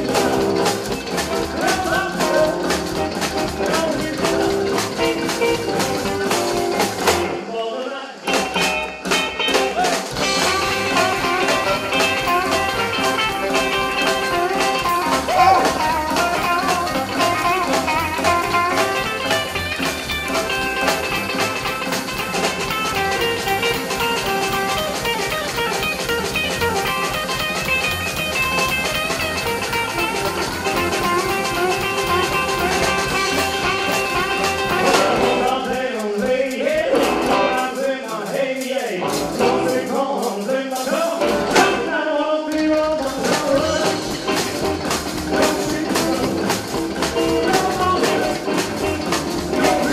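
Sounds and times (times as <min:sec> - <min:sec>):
upright bass: 0:00.0 - 0:07.5, 0:08.2 - 0:37.8, 0:38.9 - 0:40.1, 0:41.1 - 0:49.9
drums: 0:00.0 - 0:49.9
electric and acoustic guitars: 0:00.0 - 0:49.9.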